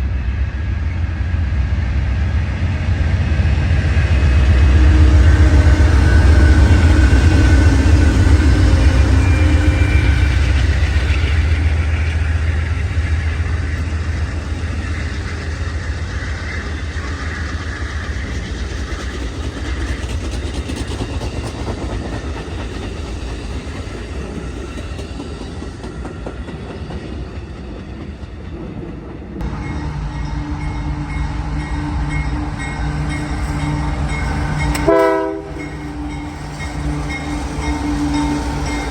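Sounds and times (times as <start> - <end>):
rail cars rolling: 0.0 - 38.9
locomotive engine rumble: 1.3 - 24.9, 29.0 - 38.9.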